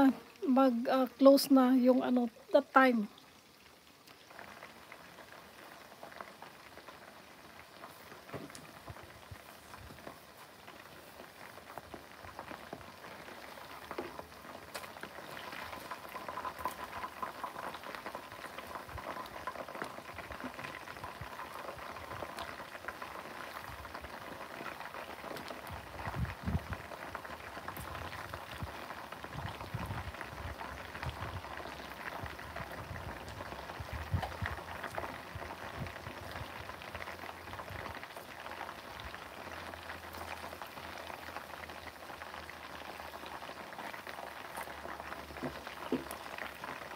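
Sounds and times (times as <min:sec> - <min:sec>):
oil sizzling and crackling: 0:00.0 - 0:46.9.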